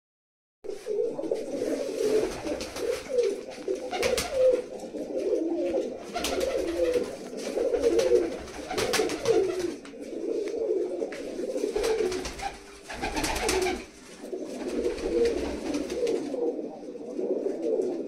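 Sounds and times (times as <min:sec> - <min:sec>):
pigeons cooing: 0:00.7 - 0:18.0.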